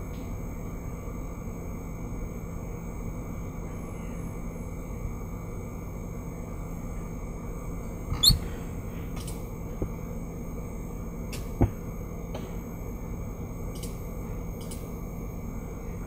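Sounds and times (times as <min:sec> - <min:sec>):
low room and microphone hum: 0:00.0 - 0:16.0.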